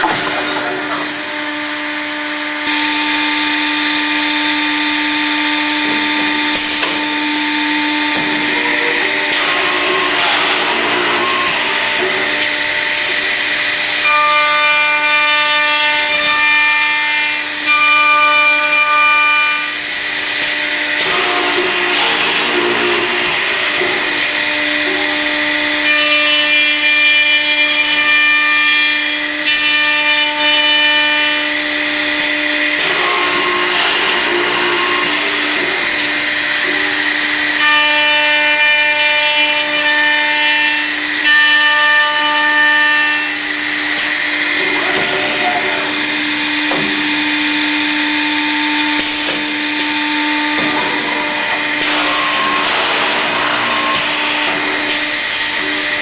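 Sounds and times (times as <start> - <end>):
drilling machine cutting wood: 0.0 - 56.0
high machine whine: 0.0 - 56.0.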